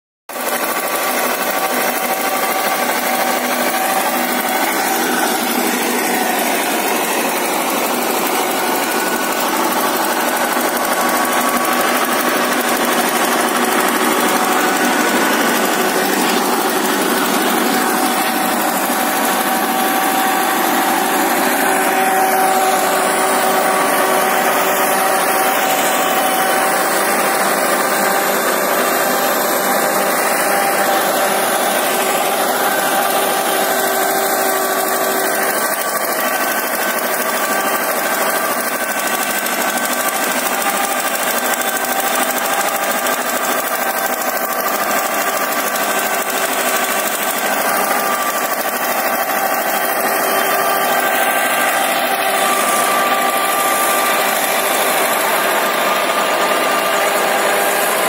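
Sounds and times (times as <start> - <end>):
tractor diesel engine under load: 0.3 - 58.0
steady whine: 0.6 - 58.0.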